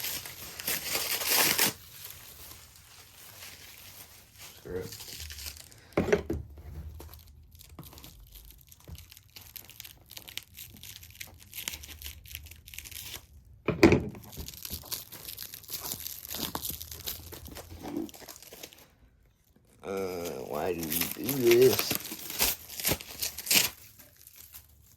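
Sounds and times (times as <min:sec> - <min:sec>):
packaging tearing and crumpling: 0:00.0 - 0:06.0, 0:06.9 - 0:13.6, 0:14.2 - 0:18.9, 0:19.8 - 0:24.9.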